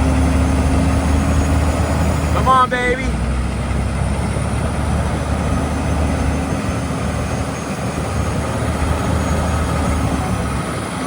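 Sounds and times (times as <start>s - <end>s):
heavy diesel engine under load: 0.0s - 11.0s.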